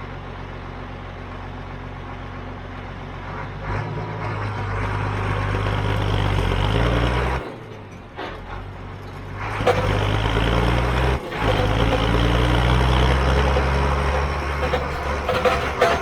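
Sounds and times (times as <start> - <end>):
farm vehicle engine running: 0.0 - 16.0.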